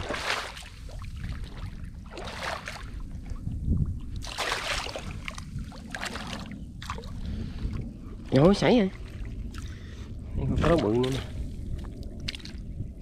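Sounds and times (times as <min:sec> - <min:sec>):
water splashing: 0:00.0 - 0:09.9, 0:10.5 - 0:12.7
wind rumbling on microphone: 0:00.0 - 0:13.0.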